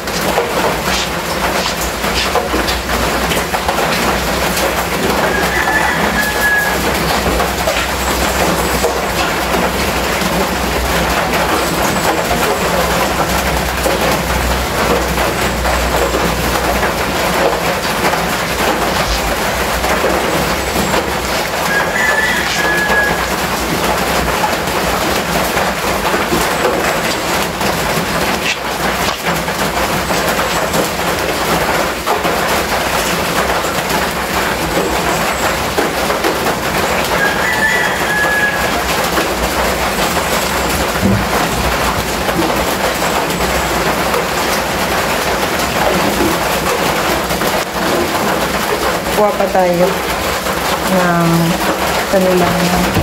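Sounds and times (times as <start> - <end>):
rain on a metal roof: 0.0 - 53.0.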